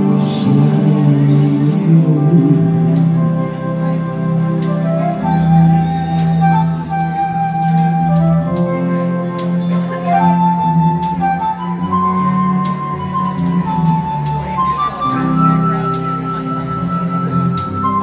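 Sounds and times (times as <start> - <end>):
flute-like lead melody: 0.0 - 18.0
live band playing slowly: 0.0 - 18.0.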